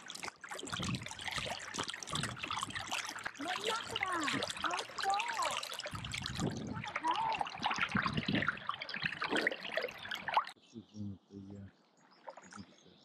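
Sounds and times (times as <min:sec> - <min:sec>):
paddle splashing water: 0:00.0 - 0:10.6
water dripping off paddle: 0:00.0 - 0:10.6.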